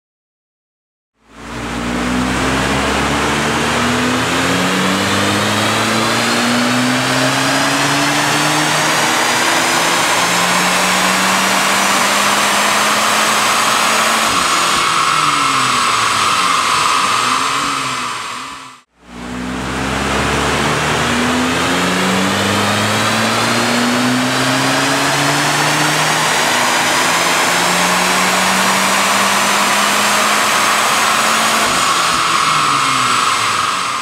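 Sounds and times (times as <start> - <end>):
car engine revving at full throttle: 1.2 - 34.0.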